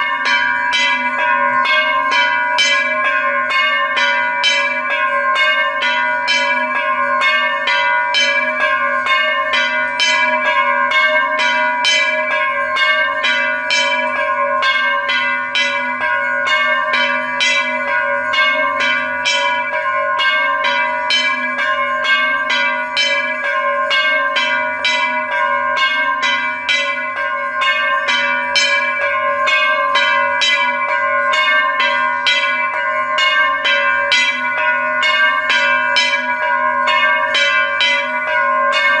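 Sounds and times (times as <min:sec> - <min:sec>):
temple bells ringing: 0:00.0 - 0:39.0.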